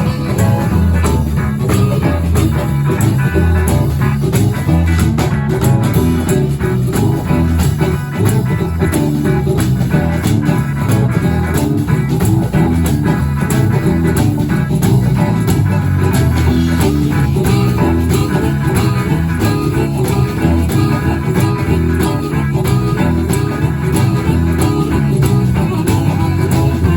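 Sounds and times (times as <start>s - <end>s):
bass guitar: 0.0s - 26.9s
drum beat: 0.0s - 26.9s
electric guitar: 0.0s - 26.9s.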